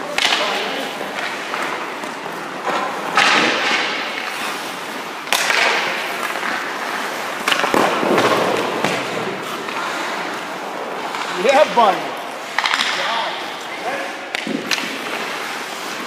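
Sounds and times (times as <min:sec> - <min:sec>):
skate blades scraping ice: 0:00.1 - 0:16.0.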